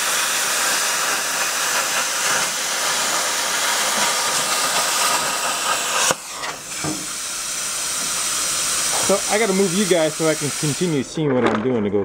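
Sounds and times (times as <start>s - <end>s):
plasma cutter hissing: 0.0s - 11.2s
plasma cutter click: 0.1s - 7.3s, 7.9s - 11.1s.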